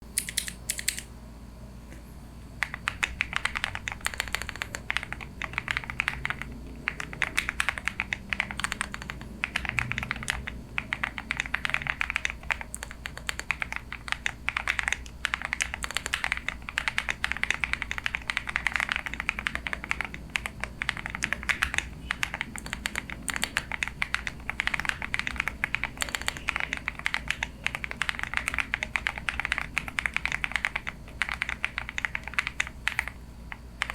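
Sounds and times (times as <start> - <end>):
faint steady low hum: 0.0 - 33.9
mechanical keyboard typing: 0.1 - 1.1, 2.6 - 33.9.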